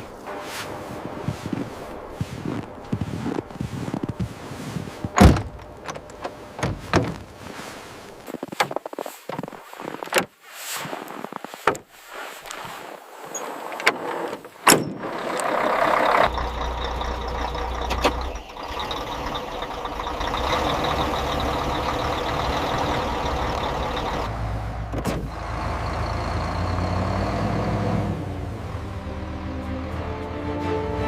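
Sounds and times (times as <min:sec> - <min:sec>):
heavy truck engine rumbling: 0:00.0 - 0:07.6, 0:13.3 - 0:31.0.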